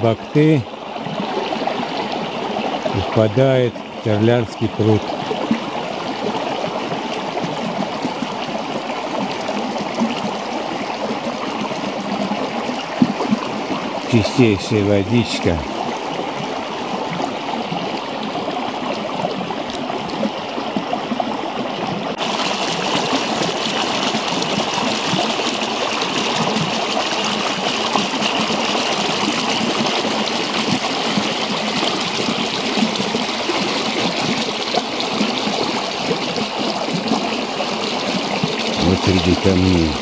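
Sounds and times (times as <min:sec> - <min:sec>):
stream babbling over stones: 0:00.0 - 0:40.0.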